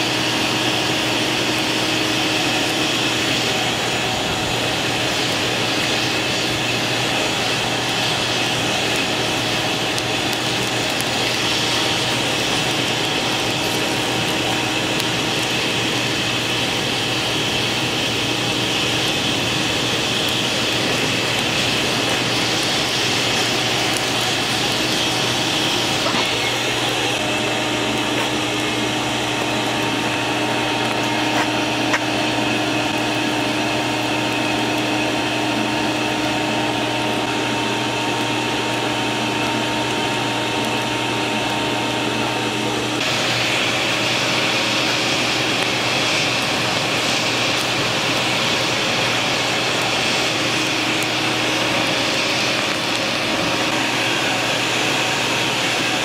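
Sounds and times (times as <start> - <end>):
faint motor hum: 0.0 - 56.0
forced air rushing through fire: 0.0 - 56.0.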